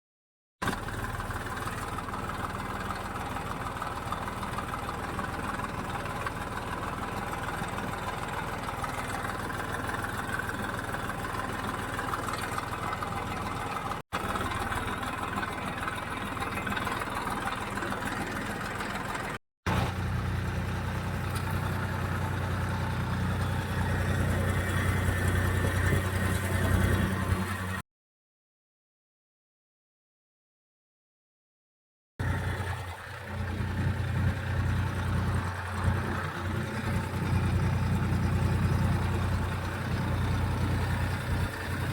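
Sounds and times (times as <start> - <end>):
tractor engine running: 0.6 - 27.8, 32.2 - 41.9.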